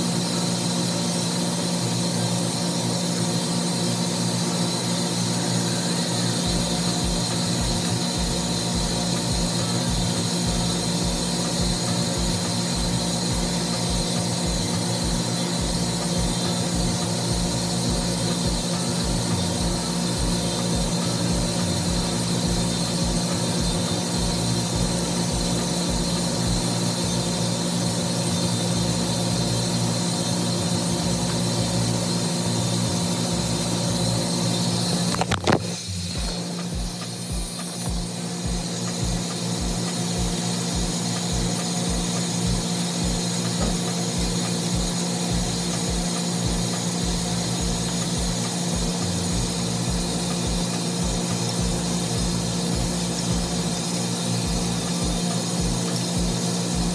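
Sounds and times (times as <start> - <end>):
machinery humming: 0.0 - 56.9.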